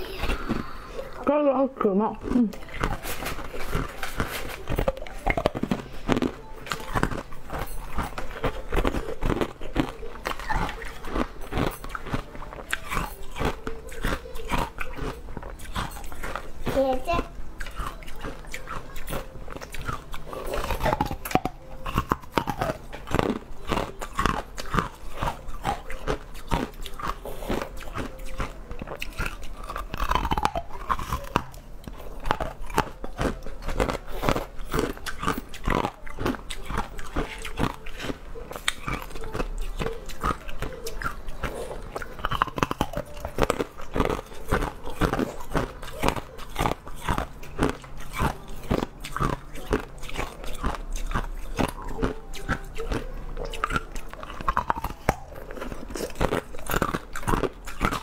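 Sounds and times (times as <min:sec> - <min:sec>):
crunching and chewing frozen treat: 0:00.0 - 0:58.0.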